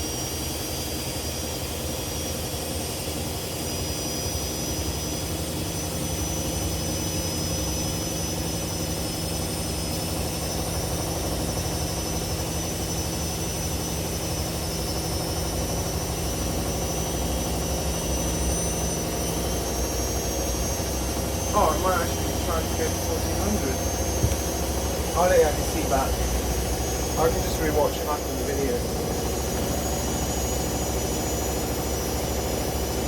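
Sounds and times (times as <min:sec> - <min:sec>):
washing machines spinning: 0:00.0 - 0:33.0.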